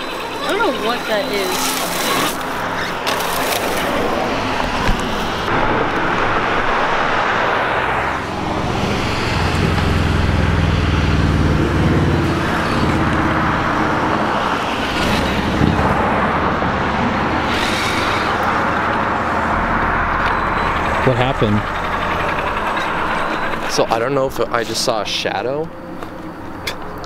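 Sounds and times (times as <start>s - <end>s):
cars passing close by: 0.0s - 27.0s
low engine hum: 0.0s - 27.0s.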